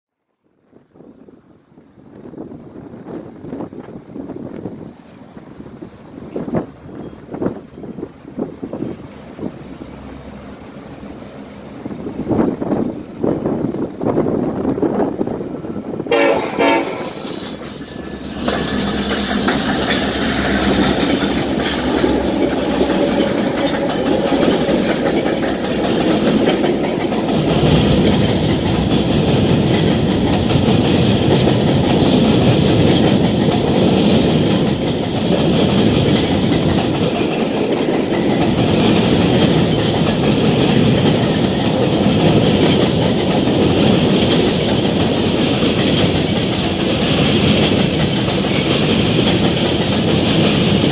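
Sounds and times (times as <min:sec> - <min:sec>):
diesel locomotives rumbling: 0:00.7 - 0:50.9
train wheels clattering on rails: 0:02.1 - 0:50.9.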